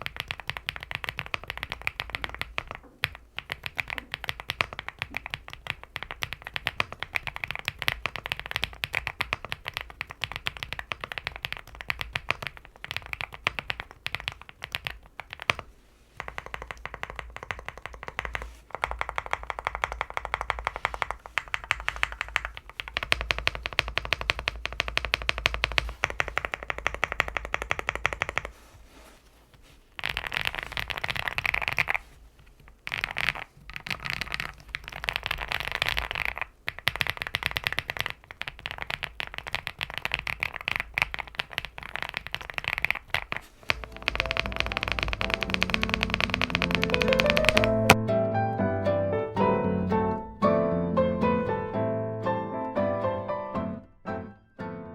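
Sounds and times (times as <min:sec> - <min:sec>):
mechanical keyboard typing: 0:00.0 - 0:28.5, 0:30.0 - 0:32.0, 0:32.7 - 0:48.0.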